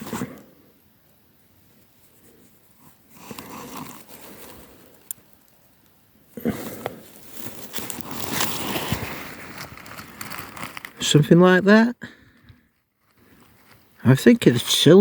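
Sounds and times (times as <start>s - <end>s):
rustling handling noise: 1.6s - 14.9s.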